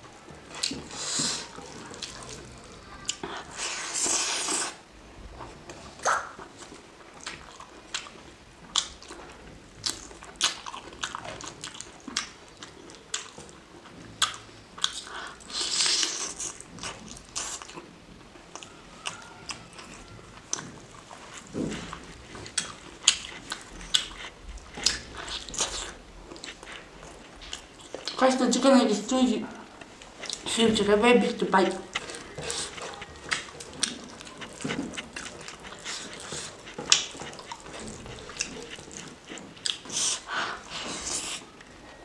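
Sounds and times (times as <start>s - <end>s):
close-miked chewing and biting: 0.1s - 4.8s, 5.4s - 28.2s, 29.7s - 30.6s, 31.4s - 41.7s.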